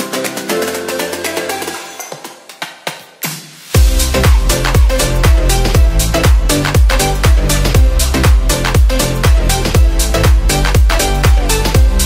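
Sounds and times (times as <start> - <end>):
electronic music with a beat: 0.0 - 12.0.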